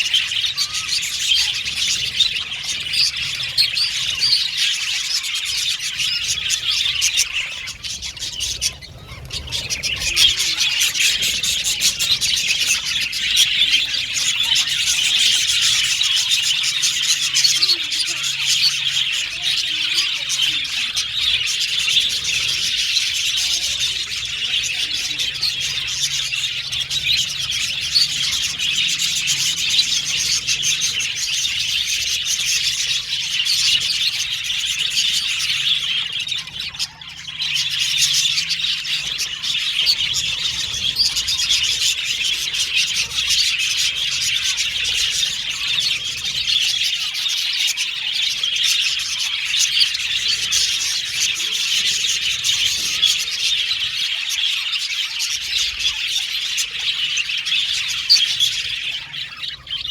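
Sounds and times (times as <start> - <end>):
budgies chirping: 0.0 - 59.9.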